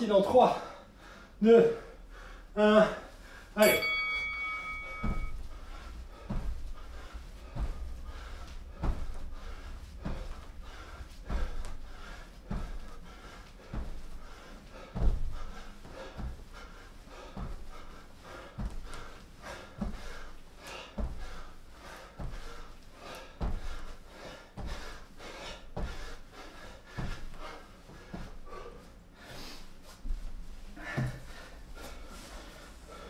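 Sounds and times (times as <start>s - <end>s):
hard breaths: 0.2s - 33.0s
feet thudding onto exercise mat: 4.0s - 33.0s.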